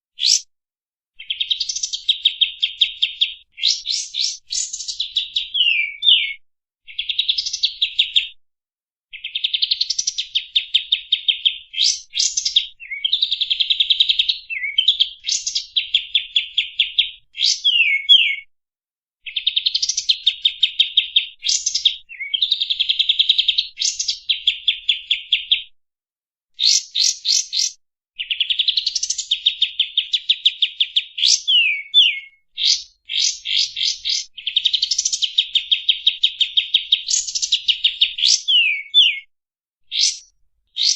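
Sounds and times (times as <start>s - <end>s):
songbird singing trills and whistles: 0.2s - 0.5s, 1.2s - 8.4s, 9.1s - 18.5s, 19.2s - 25.7s, 26.6s - 39.3s, 39.9s - 40.9s.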